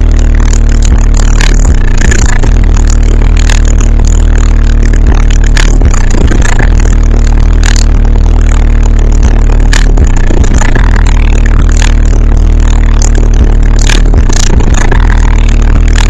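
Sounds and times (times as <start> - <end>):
loud bass-heavy music from subwoofers: 0.0 - 16.0.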